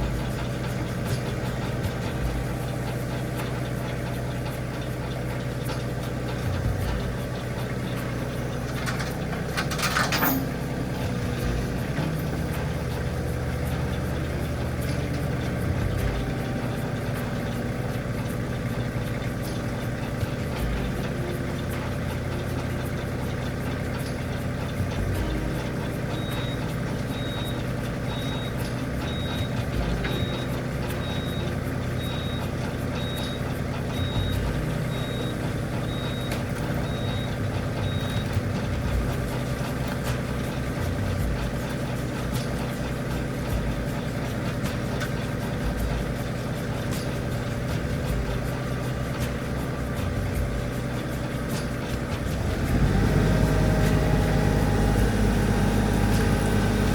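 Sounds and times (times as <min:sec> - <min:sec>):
reversing alarm beeping: 0:00.0 - 0:45.6
engine running steadily: 0:00.0 - 0:56.9.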